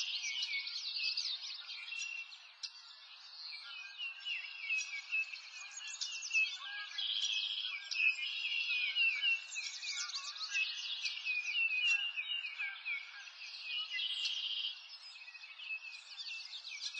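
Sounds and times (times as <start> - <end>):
birds chirping and singing: 0.0 - 16.9.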